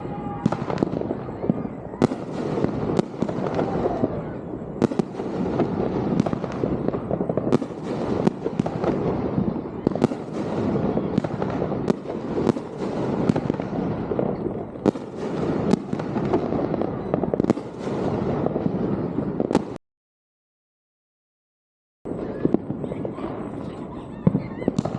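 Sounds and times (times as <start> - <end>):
fireworks bangs: 0.0 - 19.8, 22.1 - 24.9
fireworks crackling: 0.0 - 19.8, 22.1 - 24.9.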